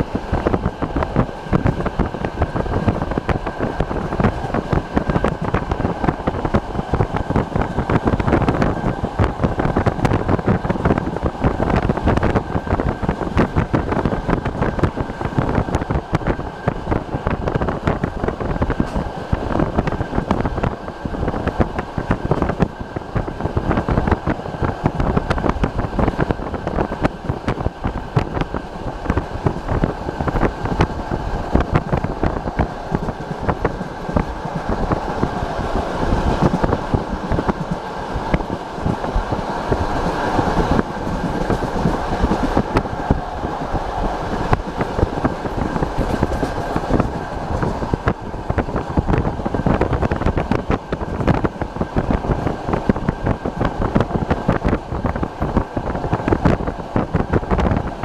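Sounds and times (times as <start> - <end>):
train wheels clicking on rails: 0.0 - 58.0
wind rushing over microphone: 0.0 - 58.0.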